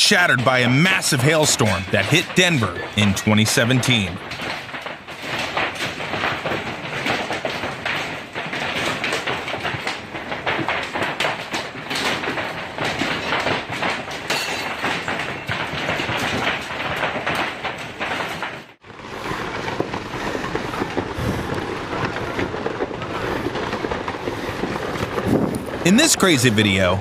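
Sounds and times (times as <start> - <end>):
hailstones clattering: 0.0 - 27.0
heavier rumbling clatter: 0.0 - 27.0.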